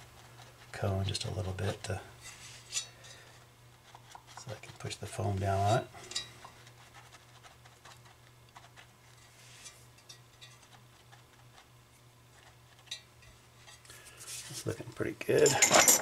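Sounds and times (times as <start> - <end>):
light handling ticks and rubs: 0.0 - 15.5
steady low hum: 0.0 - 16.0.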